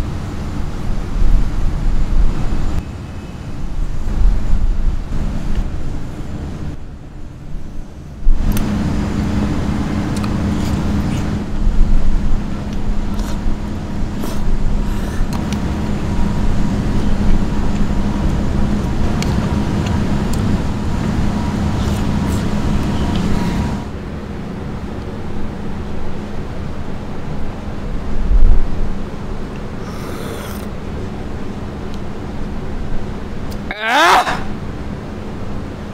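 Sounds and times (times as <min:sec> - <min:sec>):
traffic hum: 0:00.0 - 0:35.9.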